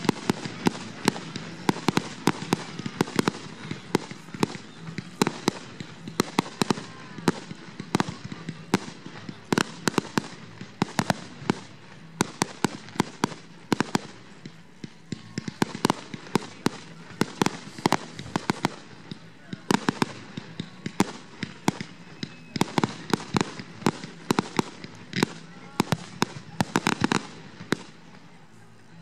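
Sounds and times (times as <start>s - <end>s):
fireworks bangs and pops: 0.0s - 29.0s.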